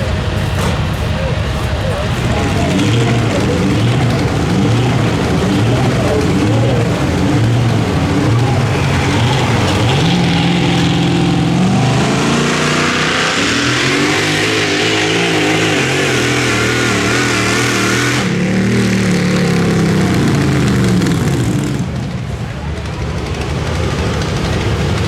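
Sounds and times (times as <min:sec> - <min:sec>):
truck engine at high revs: 0:00.0 - 0:25.0.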